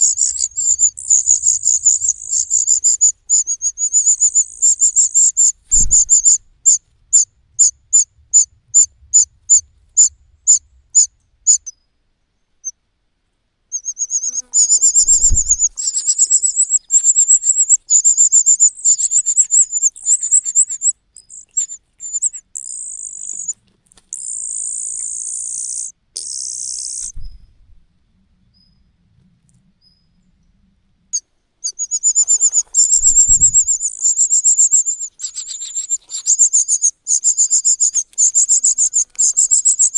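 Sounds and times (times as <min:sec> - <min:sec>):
cuckoo chick begging calls: 0:00.0 - 0:11.7, 0:13.7 - 0:27.4, 0:31.6 - 0:39.9.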